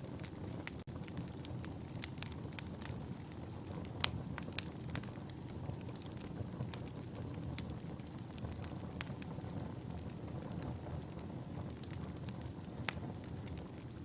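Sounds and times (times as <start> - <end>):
fire crackling and popping: 0.0 - 14.0
fire rumbling: 0.0 - 14.0.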